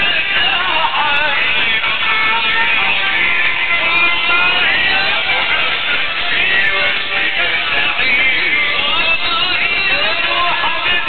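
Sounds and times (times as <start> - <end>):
plucked string instruments: 0.0 - 11.0
violin: 0.0 - 11.0.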